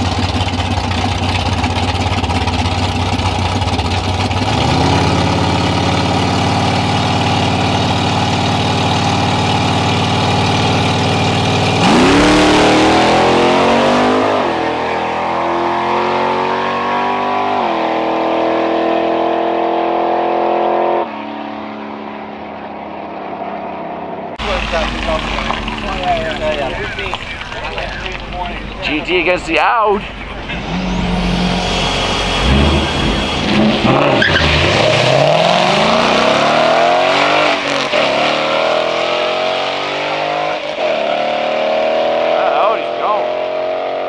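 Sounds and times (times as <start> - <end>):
drag car engine revving: 0.0 - 21.1, 22.3 - 44.0
drag car accelerating through gears: 3.0 - 28.2, 30.1 - 44.0.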